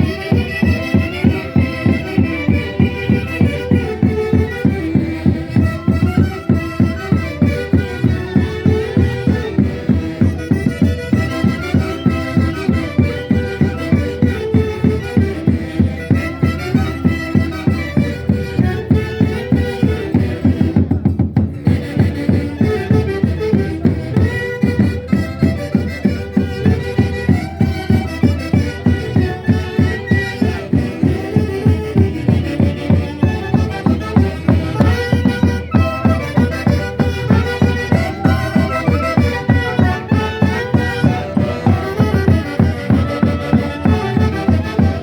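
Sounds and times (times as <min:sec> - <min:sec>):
band playing music: 0:00.0 - 0:45.0.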